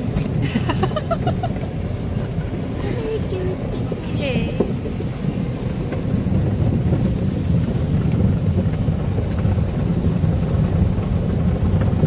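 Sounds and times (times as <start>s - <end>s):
car wash brushes rumbling: 0.0s - 12.0s
water spraying on car: 0.0s - 12.0s.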